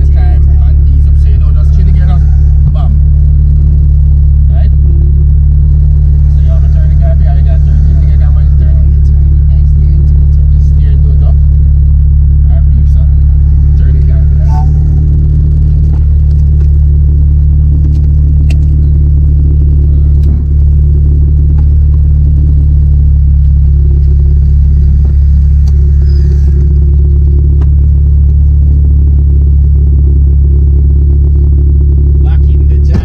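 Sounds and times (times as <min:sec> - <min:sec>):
car engine droning: 0:00.0 - 0:33.0
road noise inside car: 0:00.0 - 0:33.0.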